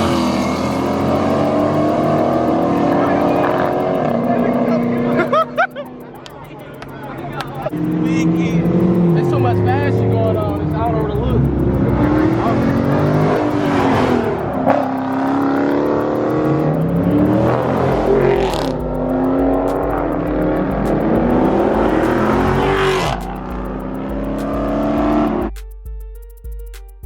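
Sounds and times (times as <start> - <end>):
car engine revving: 0.0 - 25.6
music beat: 0.0 - 27.0.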